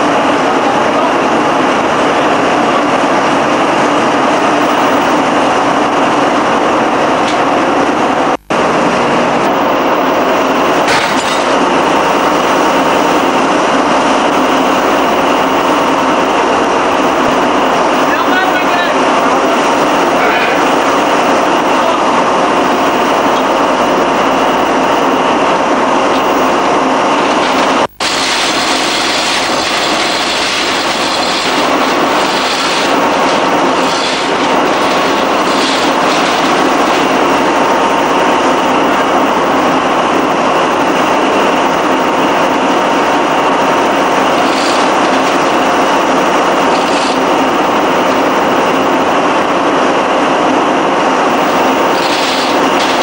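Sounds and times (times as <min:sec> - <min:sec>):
heavy machinery drone: 0:00.0 - 0:53.0.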